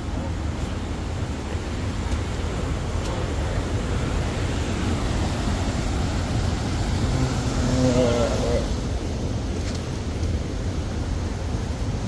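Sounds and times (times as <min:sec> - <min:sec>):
mountain stream rushing over rocks: 0:00.0 - 0:12.0.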